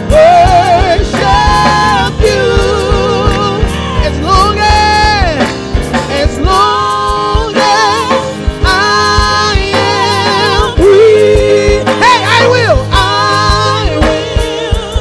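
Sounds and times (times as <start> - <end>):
keyboard accompaniment: 0.0 - 15.0
steady beat: 0.0 - 15.0
woman singing with vibrato: 0.0 - 15.0.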